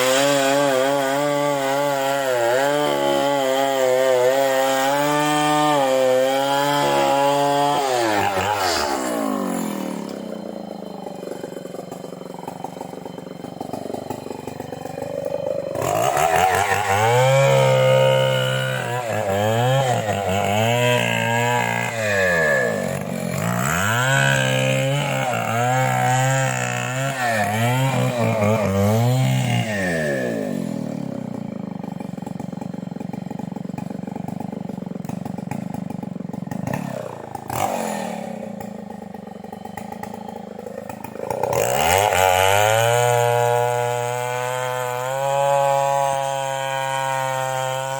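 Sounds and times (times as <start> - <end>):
chainsaw running and revving: 0.0 - 47.9.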